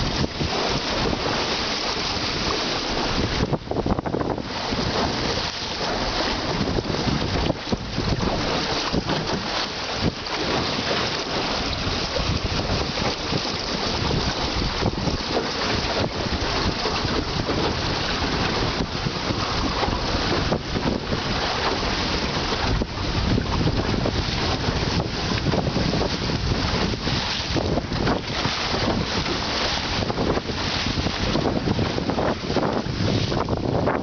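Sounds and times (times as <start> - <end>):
waves splashing along boat hull: 0.0 - 34.0
wind buffeting microphone: 0.0 - 34.0.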